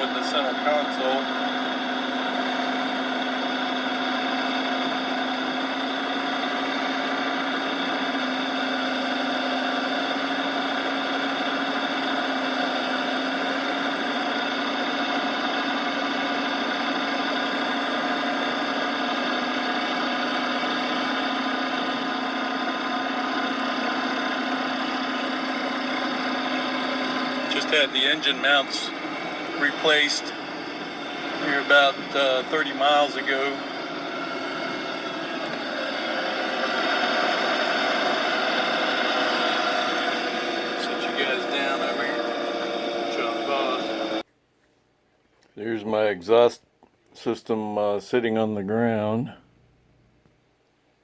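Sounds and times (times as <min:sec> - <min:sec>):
car engine humming: 0:00.0 - 0:44.2
steady droning tone: 0:00.0 - 0:44.2.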